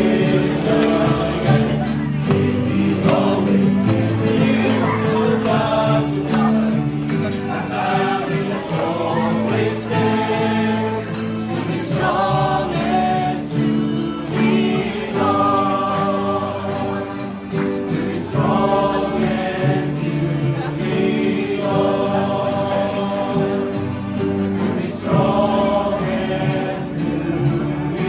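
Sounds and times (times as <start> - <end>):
worship music with group singing: 0.0 - 28.0.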